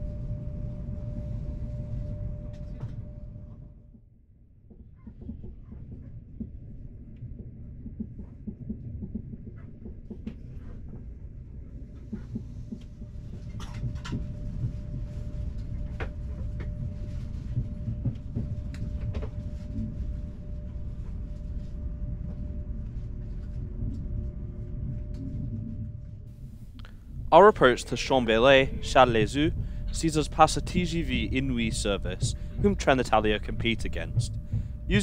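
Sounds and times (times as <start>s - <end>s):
train cabin low rumble: 0.0s - 3.8s, 10.3s - 35.0s
faint steady whine: 0.0s - 4.0s, 6.2s - 35.0s.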